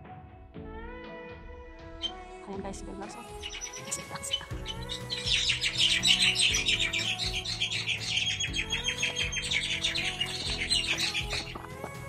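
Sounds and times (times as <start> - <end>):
background music with low notes: 0.0 - 12.0
birds chirping: 2.0 - 12.0.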